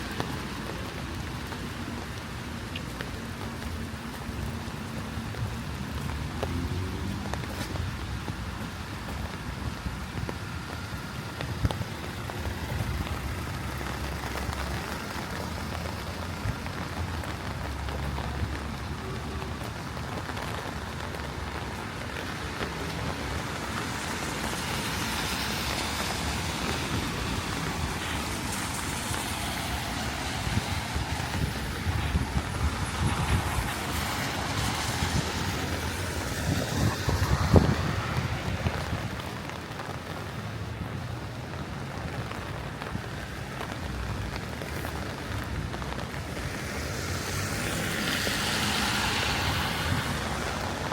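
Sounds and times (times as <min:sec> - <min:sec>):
steady rain: 0:00.0 - 0:50.9
tyres hissing on wet road: 0:00.0 - 0:50.9.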